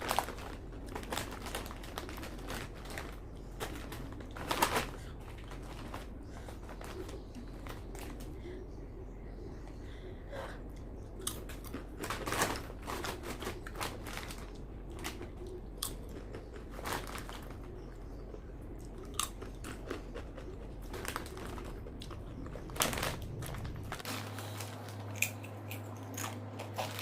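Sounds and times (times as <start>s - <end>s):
person crunching potato chips: 0.0s - 8.3s, 11.1s - 27.0s.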